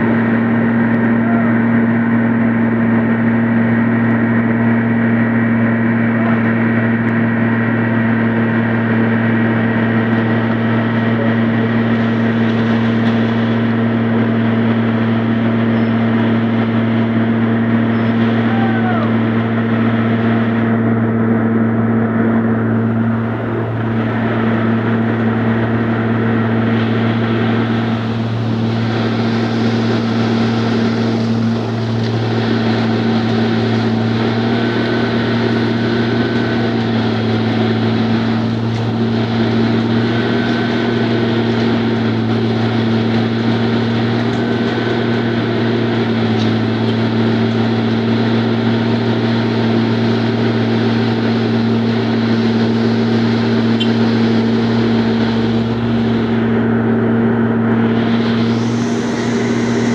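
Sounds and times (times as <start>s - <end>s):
machinery engine humming: 0.0s - 59.9s.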